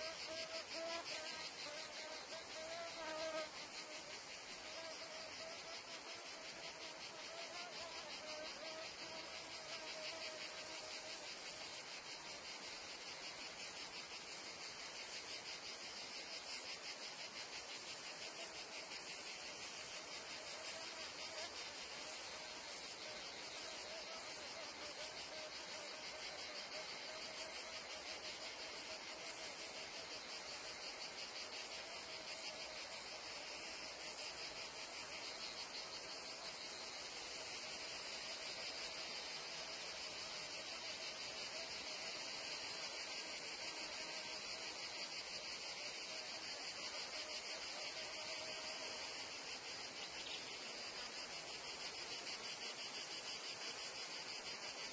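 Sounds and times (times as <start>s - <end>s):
crickets and cicadas chirring: 0.0s - 54.9s.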